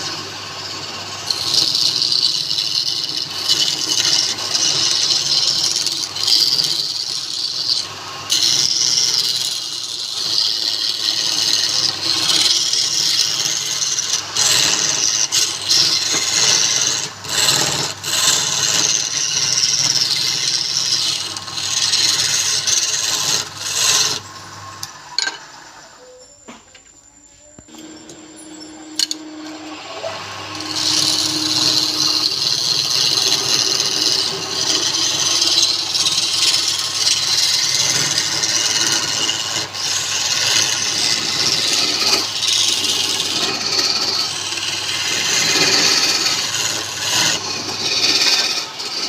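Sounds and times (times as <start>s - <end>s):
tool rasping on spinning wood: 0.0s - 26.1s, 28.4s - 49.0s
low hum of lathe: 0.0s - 26.6s, 27.2s - 49.0s.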